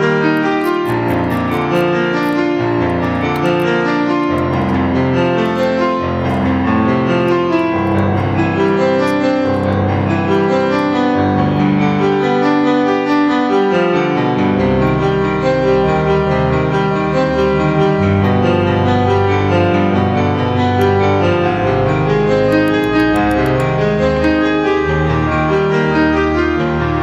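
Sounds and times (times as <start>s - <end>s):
piano music with held chords: 0.0s - 27.0s.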